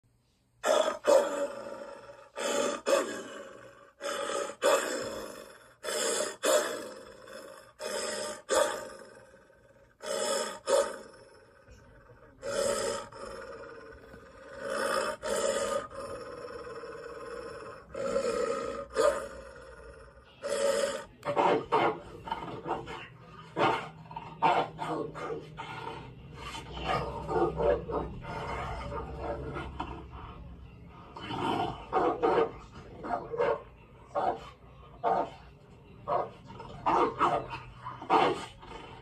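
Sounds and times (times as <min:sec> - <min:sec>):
dogs barking and growling: 0:00.6 - 0:39.0.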